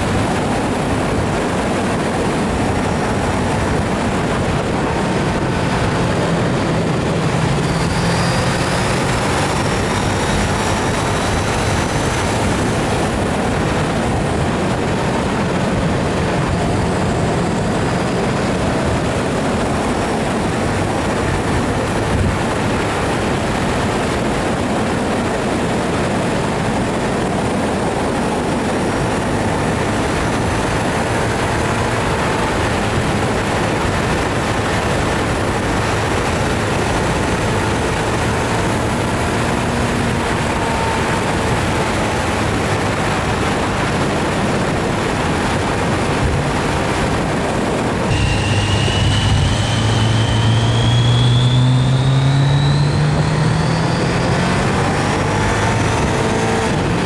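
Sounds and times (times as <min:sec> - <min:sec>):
motorcycle engine: 0:00.0 - 0:57.0
wind and road noise rushing: 0:00.0 - 0:57.0.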